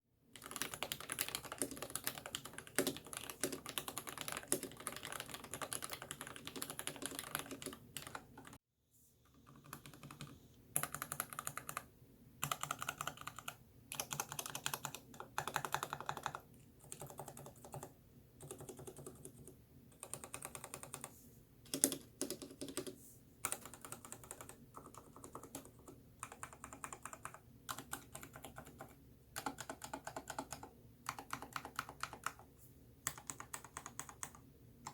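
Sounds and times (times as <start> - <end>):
mechanical keyboard typing: 0.4 - 8.6, 9.4 - 21.1, 21.7 - 34.9.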